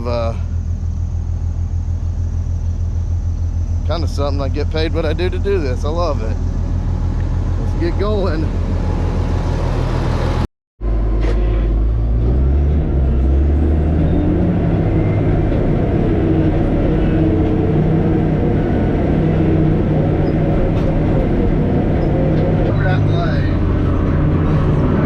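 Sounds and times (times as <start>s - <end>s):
diesel engine under work: 0.0s - 25.0s.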